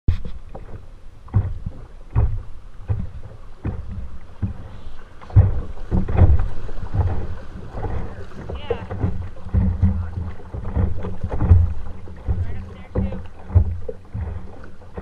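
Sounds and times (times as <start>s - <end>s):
low thumps: 0.1s - 15.0s
river water splashing against kayak: 0.1s - 15.0s.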